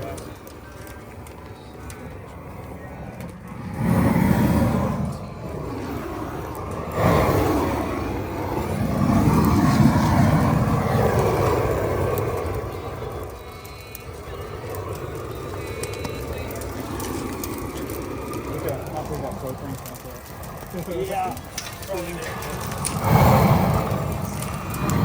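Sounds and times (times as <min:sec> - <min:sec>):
propane torch flame rushing: 0:00.0 - 0:25.0.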